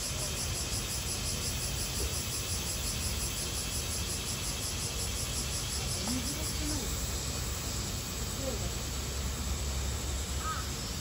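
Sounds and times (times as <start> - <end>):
shrill insect chorus: 0.0 - 11.0.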